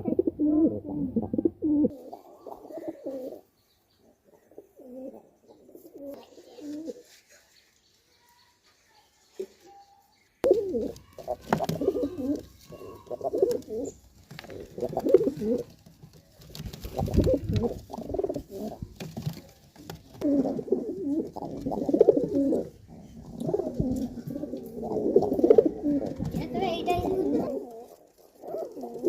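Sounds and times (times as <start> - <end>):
pigeons cooing: 0.0 - 7.2, 10.4 - 29.0.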